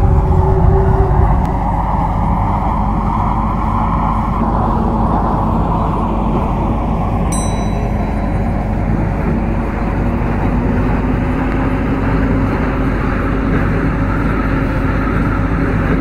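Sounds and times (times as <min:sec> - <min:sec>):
train motor hum: 0:00.0 - 0:16.0
train wheels rumbling on rails: 0:00.0 - 0:16.0.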